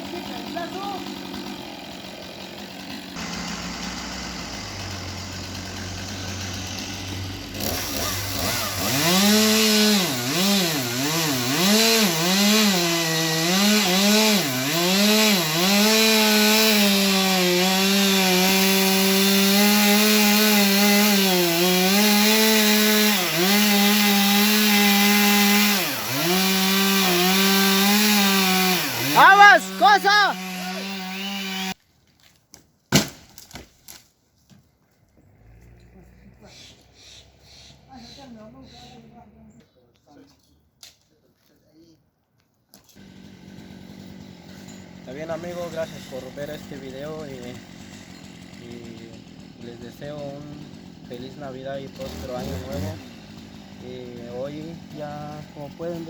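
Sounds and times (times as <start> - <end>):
chainsaw cutting a tree: 0.0 - 31.8, 42.9 - 56.0.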